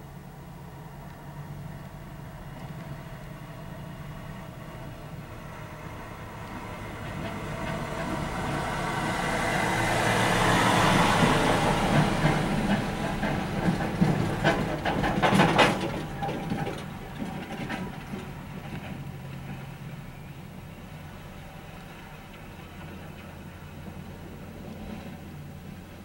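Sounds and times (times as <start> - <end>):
diesel tractor running under load: 0.0 - 26.0.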